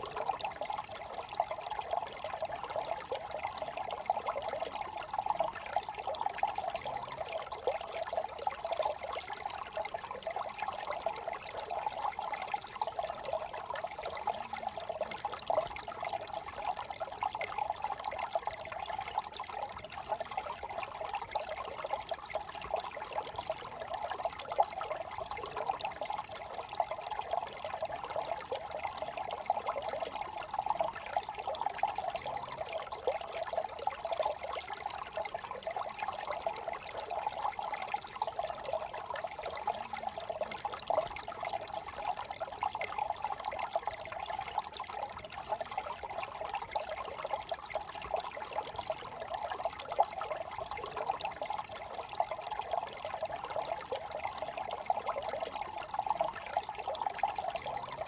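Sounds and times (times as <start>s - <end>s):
brook trickling over stones: 0.0s - 58.0s.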